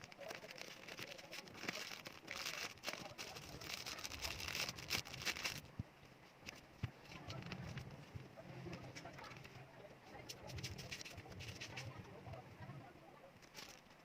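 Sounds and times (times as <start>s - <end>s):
paper and packaging rustling: 0.0s - 12.2s, 13.4s - 14.0s.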